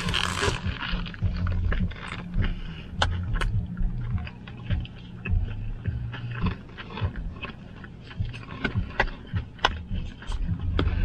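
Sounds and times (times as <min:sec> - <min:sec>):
person chewing: 0:00.0 - 0:11.0
wet mouth clicks: 0:00.0 - 0:11.0.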